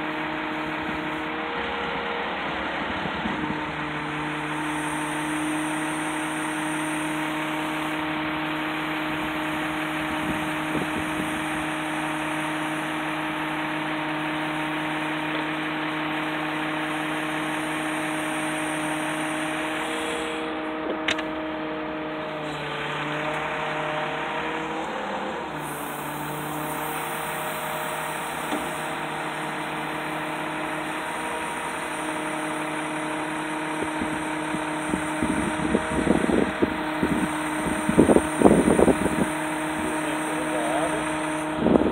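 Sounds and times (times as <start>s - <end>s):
engine and hydraulics humming: 0.0s - 41.9s.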